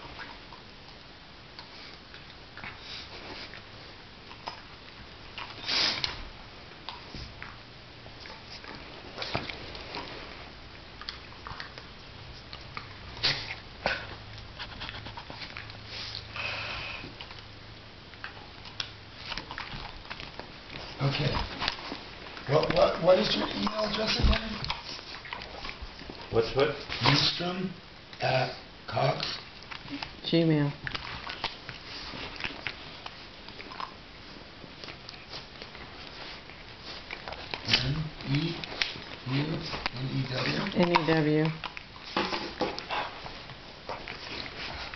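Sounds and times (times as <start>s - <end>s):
dogs sniffing and breathing: 0.0s - 27.6s, 28.2s - 44.9s.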